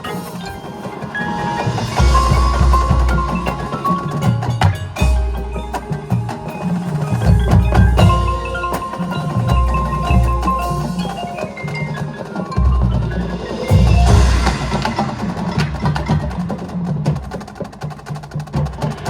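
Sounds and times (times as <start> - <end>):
mallet percussion: 0.0 - 19.0
marching band playing: 0.0 - 19.0.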